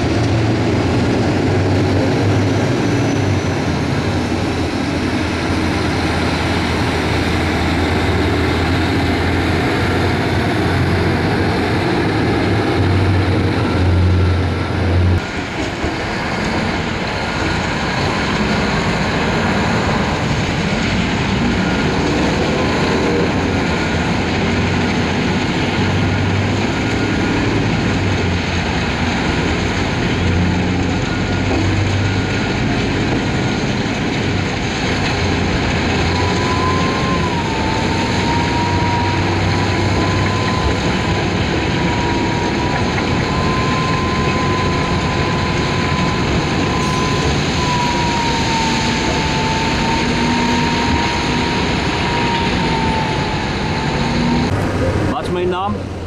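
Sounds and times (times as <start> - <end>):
haul truck diesel engine: 0.0 - 56.0
screening and conveyor plant din: 0.0 - 56.0.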